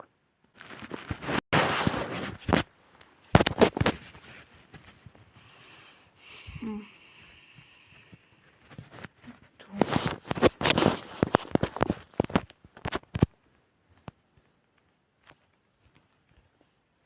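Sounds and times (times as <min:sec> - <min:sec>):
rustling: 0:00.5 - 0:17.0.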